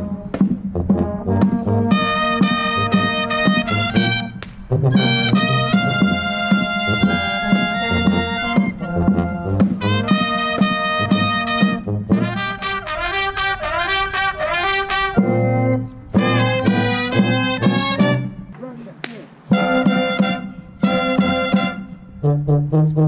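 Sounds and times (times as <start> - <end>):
marching band playing loudly: 0.0 - 22.1.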